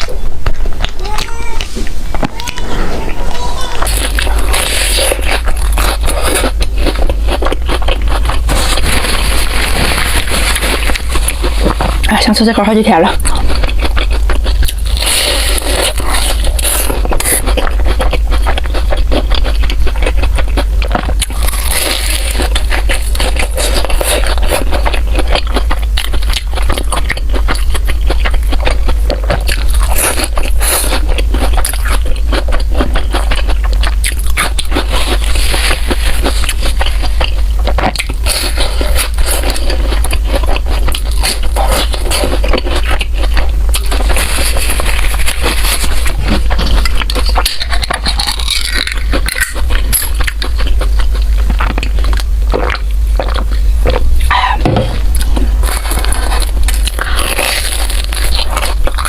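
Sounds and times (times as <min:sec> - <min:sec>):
food crunching and chewing: 0:00.0 - 0:59.0
steady low hum: 0:00.0 - 0:59.0.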